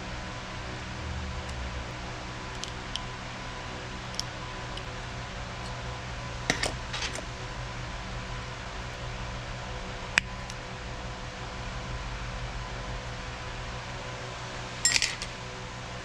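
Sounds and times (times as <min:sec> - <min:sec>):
fan hum and hiss: 0:00.0 - 0:16.0.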